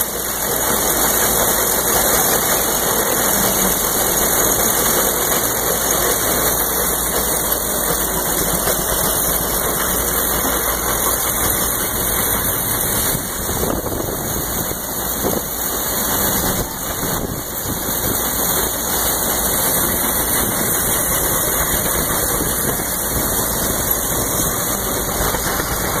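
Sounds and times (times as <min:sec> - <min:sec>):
threshing machine running: 0:00.0 - 0:26.0.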